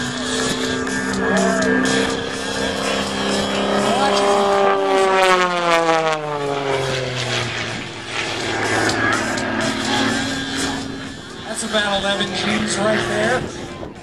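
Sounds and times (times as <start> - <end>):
plane piston engine running: 0.0 - 13.6.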